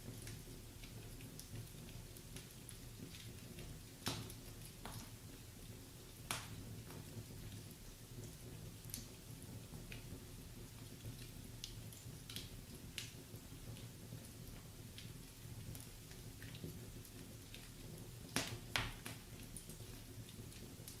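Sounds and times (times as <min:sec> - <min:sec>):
low rumble of flames: 0:00.0 - 0:21.0
logs crackling and popping: 0:00.1 - 0:21.0.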